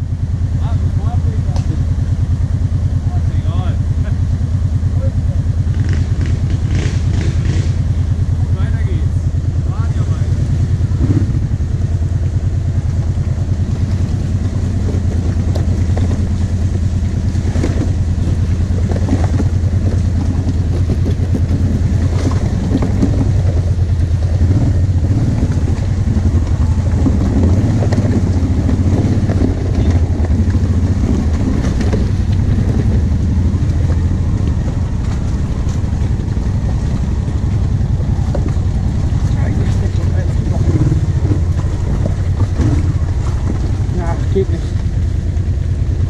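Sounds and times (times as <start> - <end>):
quad bike engine running: 0.0 - 46.0.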